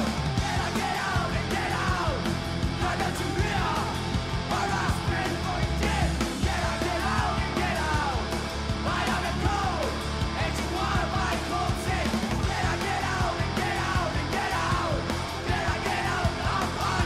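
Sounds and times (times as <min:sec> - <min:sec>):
bass line: 0:00.0 - 0:17.0
live rock band: 0:00.0 - 0:17.0
yelled sung lead vocal: 0:00.0 - 0:17.0.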